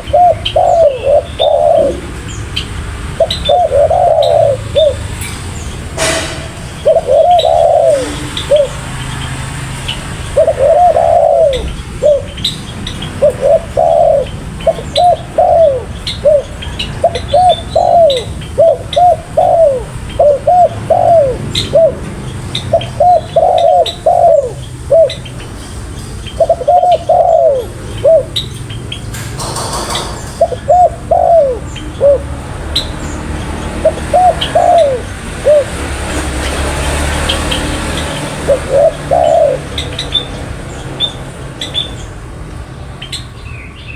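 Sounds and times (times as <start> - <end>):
dove cooing: 0.0 - 5.2, 6.7 - 28.8, 29.4 - 42.0
small birds chirping: 0.0 - 6.0, 6.6 - 43.9.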